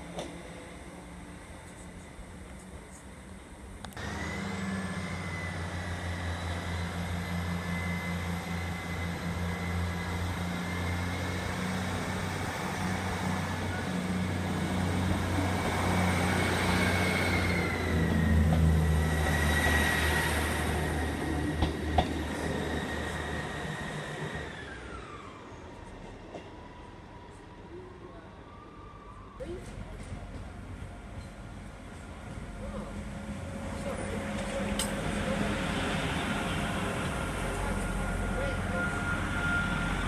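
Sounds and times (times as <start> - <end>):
diesel train engine running: 0.0 - 25.8, 29.6 - 40.0.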